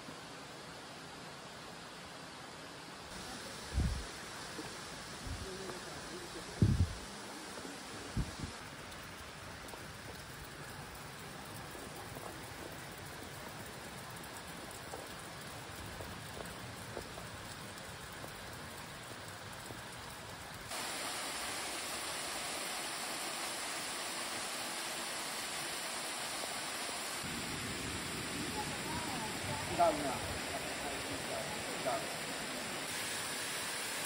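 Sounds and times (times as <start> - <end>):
rushing water: 0.0 - 34.0.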